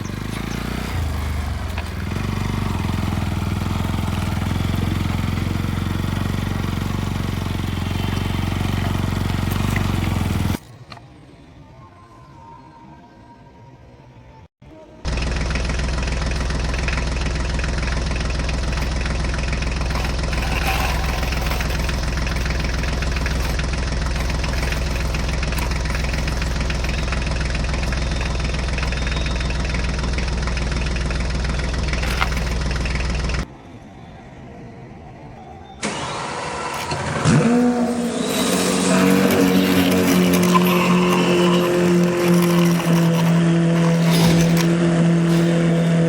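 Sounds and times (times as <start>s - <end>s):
engine idling: 0.0s - 10.6s, 15.1s - 33.5s, 36.8s - 46.0s
engine revving: 0.0s - 10.6s, 15.1s - 33.4s, 35.9s - 46.0s.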